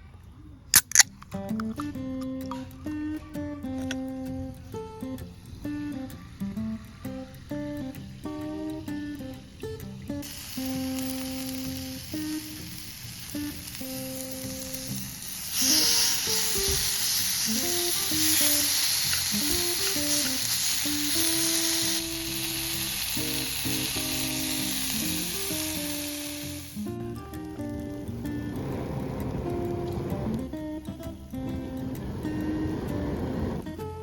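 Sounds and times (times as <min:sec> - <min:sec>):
background music: 0:00.9 - 0:34.0
food sizzling in hot fat: 0:04.7 - 0:33.8.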